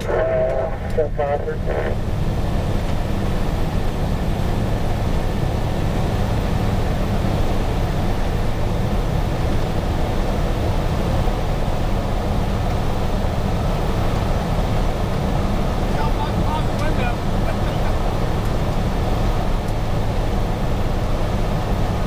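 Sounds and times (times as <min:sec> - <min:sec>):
diesel engine drone: 0:00.0 - 0:22.0
road and wind noise: 0:00.0 - 0:22.0.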